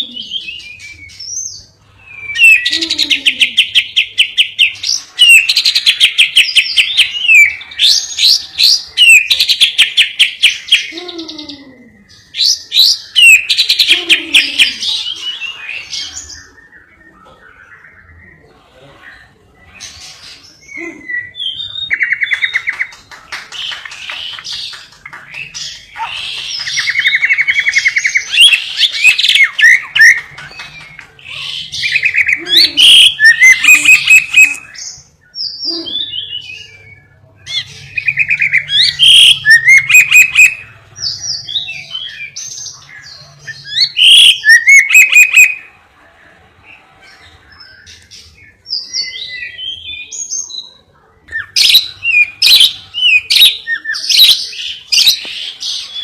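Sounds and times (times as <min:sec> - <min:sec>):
lovebird singing: 0:00.0 - 0:45.8, 0:46.7 - 0:56.0.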